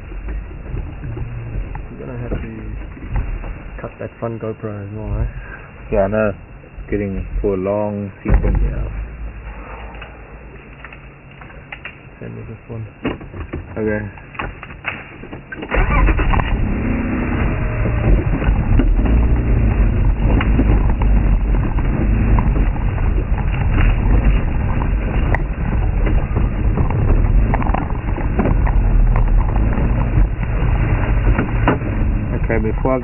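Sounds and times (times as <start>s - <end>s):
vehicle body rattling over bumps: 0.0s - 5.3s, 5.9s - 9.4s, 12.9s - 33.0s
vehicle engine and road rumble: 0.0s - 33.0s.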